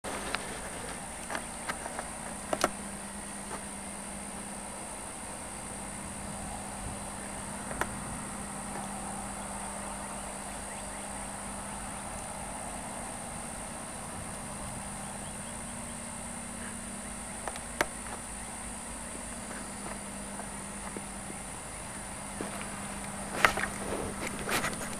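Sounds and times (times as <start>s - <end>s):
steady low hum and hiss: 0.1s - 24.9s.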